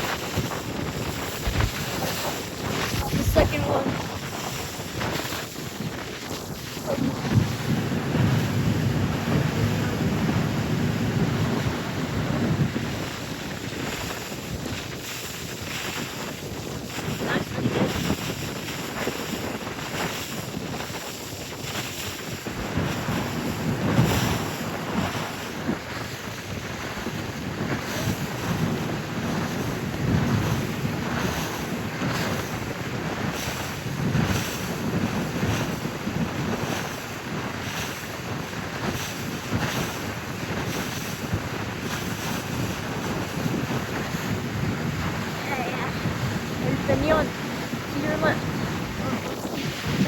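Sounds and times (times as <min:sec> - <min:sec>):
water rushing past hull: 0:00.0 - 0:50.0
wind rushing over microphone: 0:00.0 - 0:50.0.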